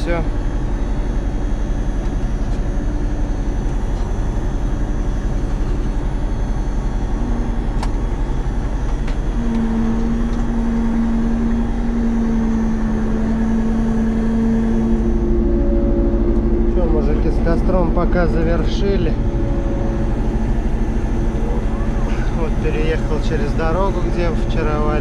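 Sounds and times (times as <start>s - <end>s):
combine harvester diesel drone: 0.0s - 25.0s
low humming tone: 0.0s - 25.0s.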